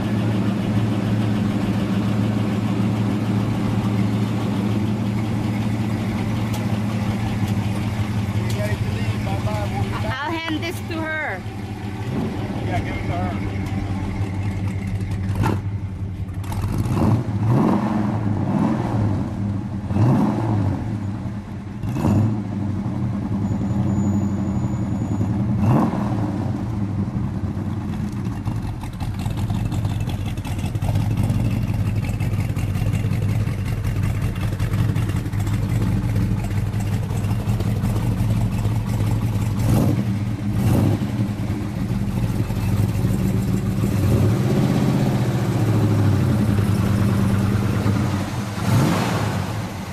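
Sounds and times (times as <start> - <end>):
car engine revving: 0.0 - 24.5, 25.2 - 49.9.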